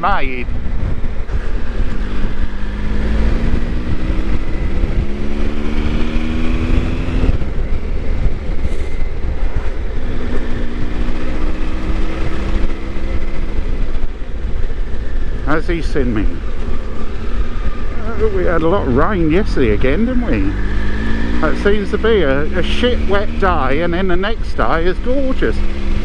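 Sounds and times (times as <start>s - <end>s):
wind rumble on microphone: 0.1s - 22.5s
motorcycle engine revving: 0.5s - 26.0s.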